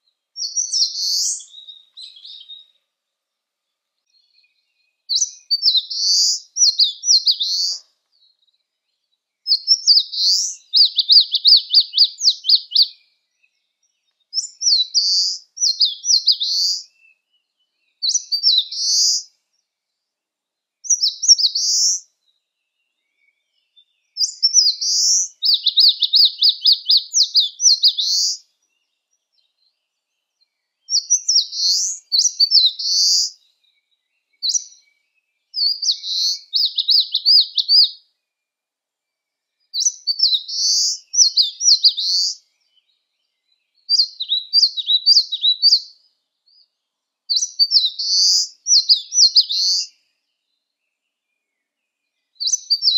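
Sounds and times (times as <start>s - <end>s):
warbler singing: 0.0s - 52.9s.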